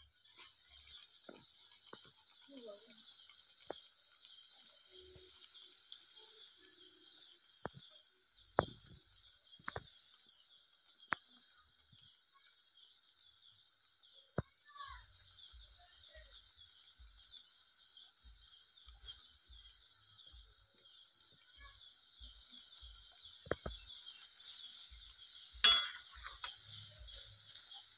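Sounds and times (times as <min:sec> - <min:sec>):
oil sizzling: 0:00.0 - 0:27.9
sharp pops from frying: 0:00.0 - 0:27.9.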